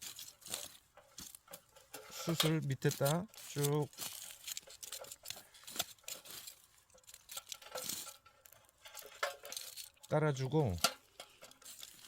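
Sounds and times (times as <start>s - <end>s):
charcoal lumps clinking: 0.0s - 12.0s.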